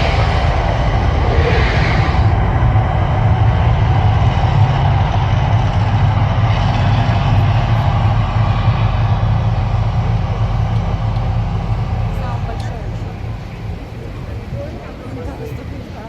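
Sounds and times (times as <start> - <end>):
deep loud rumble: 0.0 - 16.0.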